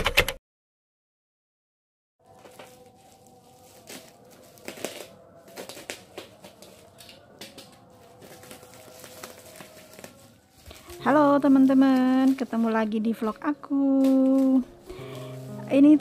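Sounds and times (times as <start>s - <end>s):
plastic pouch crinkling: 2.3s - 16.0s.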